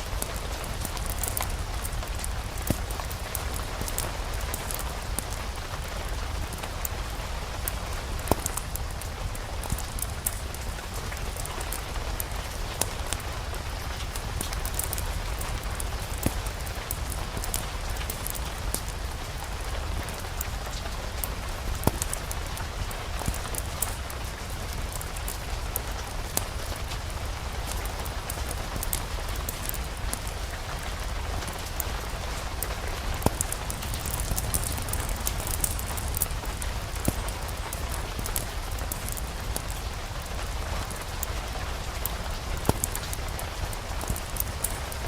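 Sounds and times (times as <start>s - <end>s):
fireplace fire crackling: 0.0s - 45.0s
steady rain: 0.0s - 45.0s.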